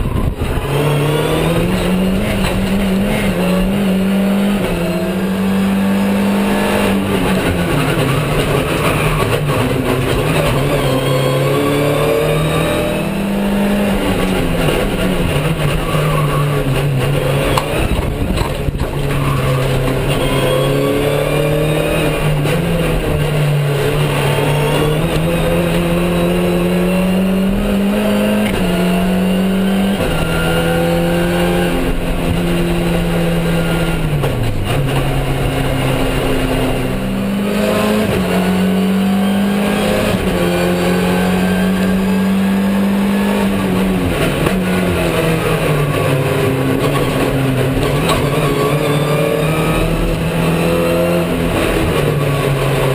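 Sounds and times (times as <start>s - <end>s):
race car engine from inside cabin: 0.0s - 52.9s.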